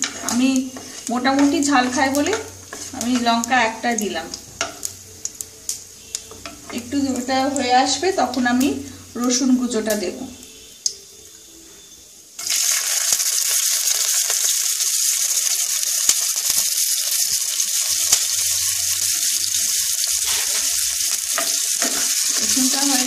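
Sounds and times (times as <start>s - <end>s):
garlic sizzling in hot oil: 0.0s - 11.0s, 11.8s - 23.0s.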